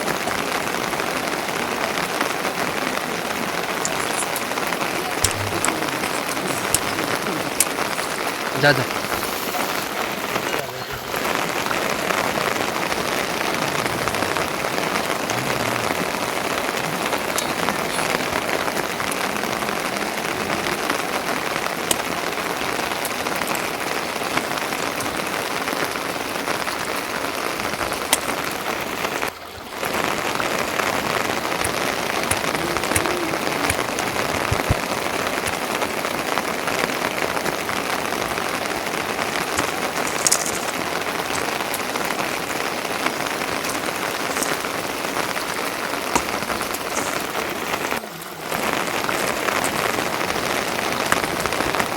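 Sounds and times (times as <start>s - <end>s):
rain hissing: 0.0s - 51.9s
raindrop ticks: 0.0s - 51.9s.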